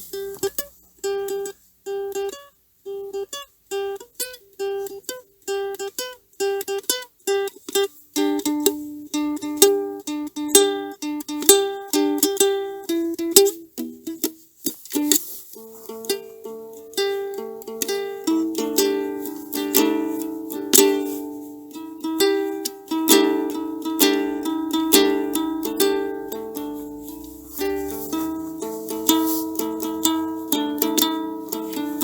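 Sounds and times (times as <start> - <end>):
plucked string instrument: 0.0 - 32.0.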